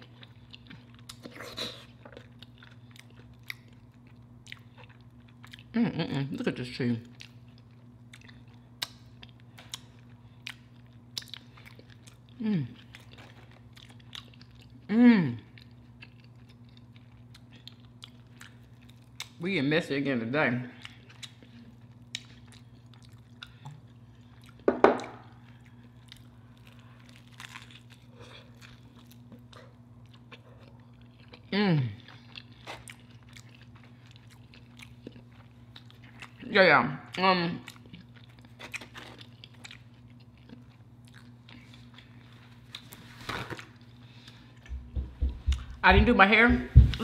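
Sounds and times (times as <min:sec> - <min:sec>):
crunching and chewing: 0:00.0 - 0:05.8, 0:07.0 - 0:19.4, 0:20.8 - 0:44.8
steady low hum: 0:00.0 - 0:47.0.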